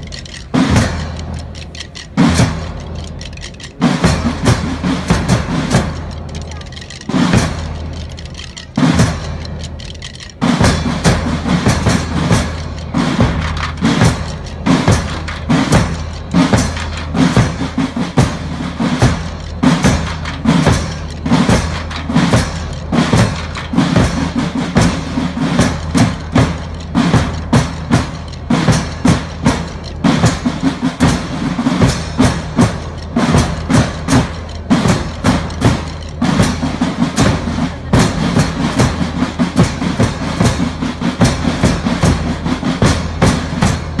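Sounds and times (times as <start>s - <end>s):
side drums and bass drums: 0.0s - 44.0s.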